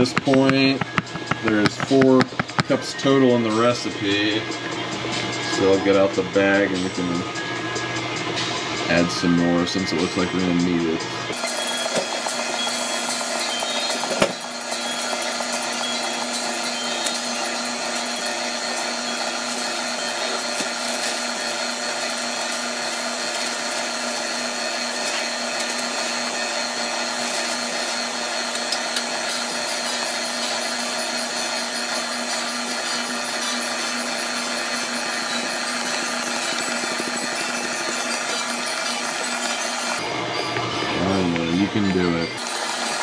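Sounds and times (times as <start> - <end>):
stand mixer motor whirring: 0.0 - 3.6, 10.2 - 43.0.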